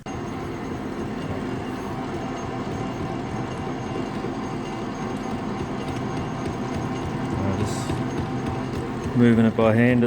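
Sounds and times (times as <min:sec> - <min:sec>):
faint steady whine: 0:00.0 - 0:10.0
metal lathe running: 0:00.0 - 0:10.0.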